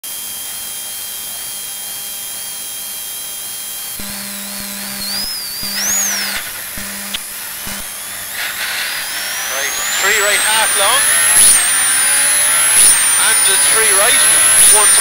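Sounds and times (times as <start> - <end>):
car engine high whine: 0.1 - 15.0.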